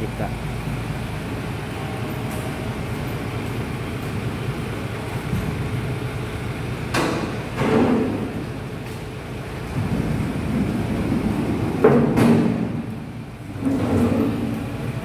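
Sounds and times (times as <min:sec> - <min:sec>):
low vehicle-like rumble: 0:00.0 - 0:15.0.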